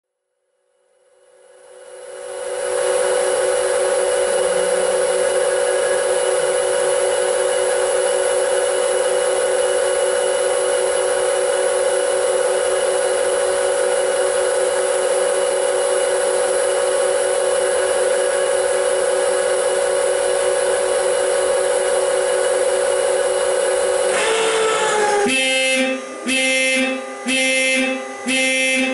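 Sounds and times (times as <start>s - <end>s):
engine room machinery hum and hiss: 1.0s - 28.9s.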